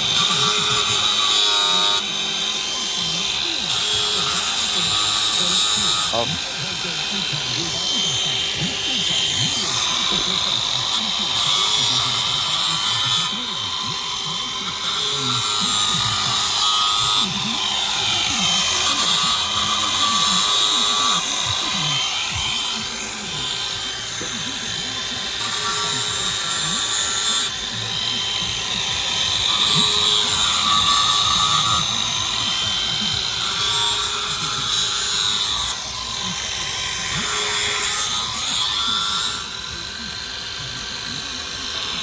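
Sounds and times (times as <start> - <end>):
angle grinder grinding metal: 0.0 - 42.0.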